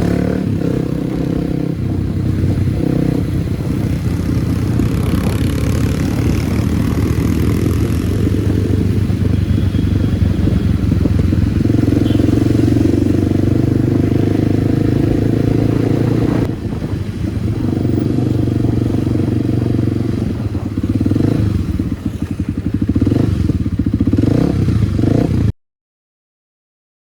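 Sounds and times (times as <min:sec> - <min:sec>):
motorcycle engine running: 0:00.0 - 0:25.5.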